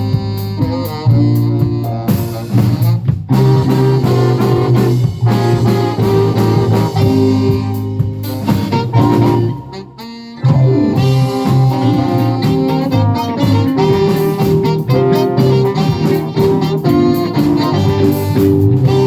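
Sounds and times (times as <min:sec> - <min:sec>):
guitar: 0:00.0 - 0:19.0
live jazz band playing: 0:00.0 - 0:19.0
saxophone: 0:00.0 - 0:19.0.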